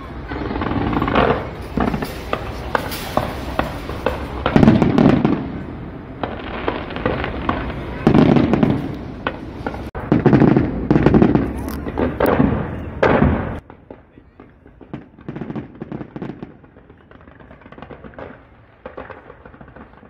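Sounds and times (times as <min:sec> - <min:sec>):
fireworks cracks and pops: 0:00.0 - 0:05.6, 0:06.2 - 0:20.0
fireworks booming bursts: 0:00.0 - 0:20.0.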